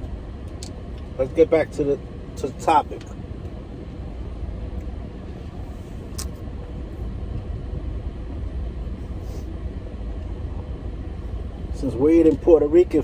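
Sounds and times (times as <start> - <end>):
faint steady hum: 0.0 - 13.0
low vehicle rumble: 0.0 - 13.0.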